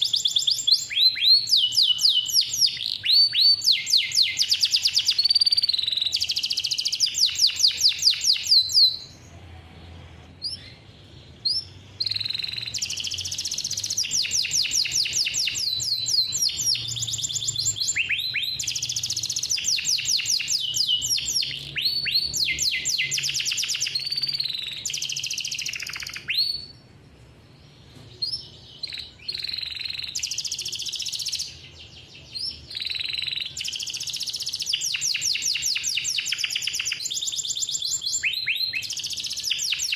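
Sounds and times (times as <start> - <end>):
canary singing rolled trills: 0.0 - 39.9.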